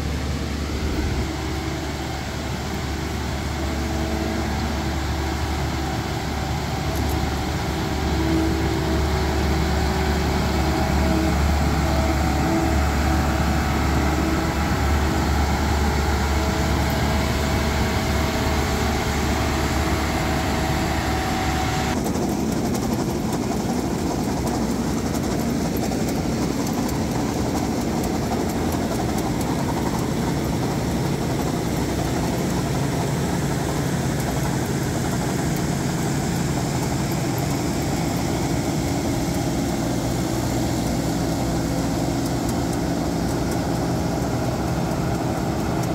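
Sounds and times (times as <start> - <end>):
combine harvester engine humming: 0.0 - 45.9.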